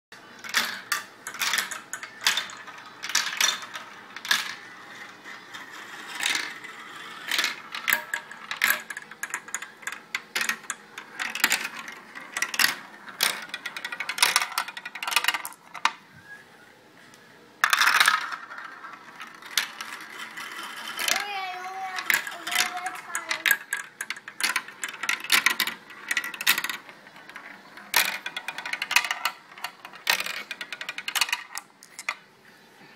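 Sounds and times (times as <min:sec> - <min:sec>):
marbles clicking on a track: 0:00.3 - 0:16.0, 0:17.6 - 0:32.2.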